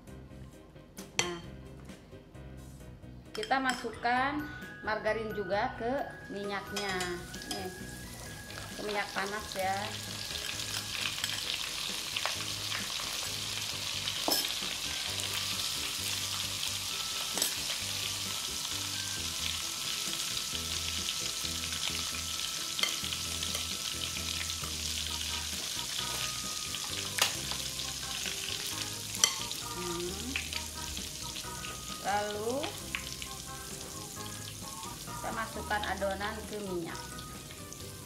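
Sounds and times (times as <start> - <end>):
oil sizzling in a wok: 6.5 - 38.0.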